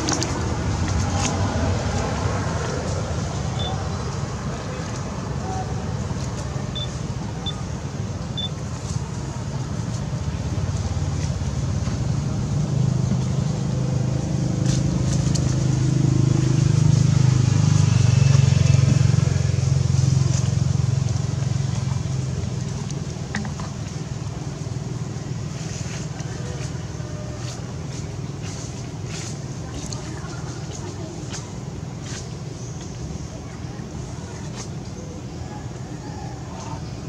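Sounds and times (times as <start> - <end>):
vehicle engine hum passing: 0.0 - 37.0.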